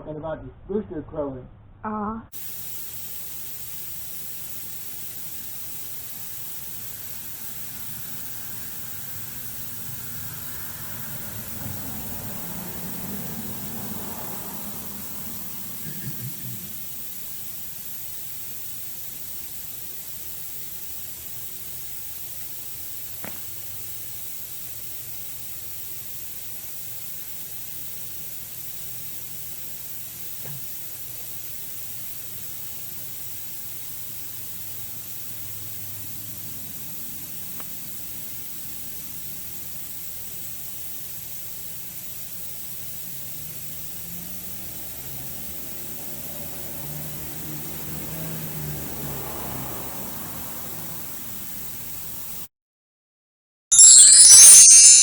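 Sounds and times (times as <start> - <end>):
high-pitched hiss: 2.4 - 52.5, 53.7 - 55.0.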